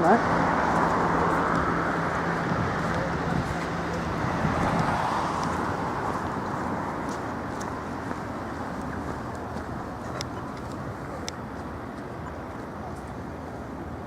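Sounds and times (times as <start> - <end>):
low engine hum: 0.0 - 14.0
vehicles rushing past: 0.0 - 14.0.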